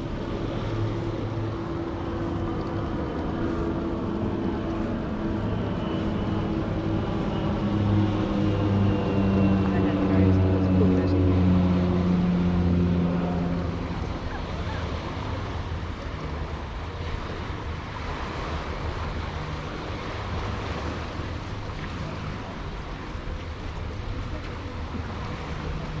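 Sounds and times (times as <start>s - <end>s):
steady engine hum: 0.0s - 26.0s
surf on the shore: 0.0s - 26.0s.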